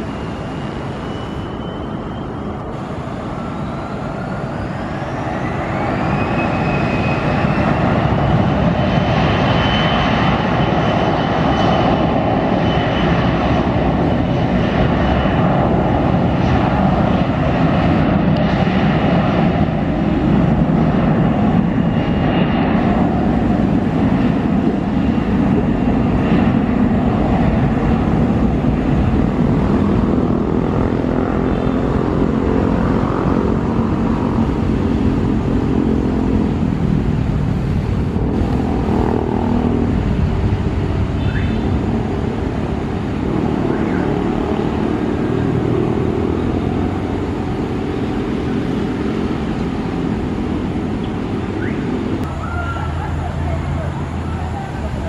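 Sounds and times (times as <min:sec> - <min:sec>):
jet engine rumble: 0:00.0 - 0:55.0
jet engine whine: 0:00.0 - 0:55.0.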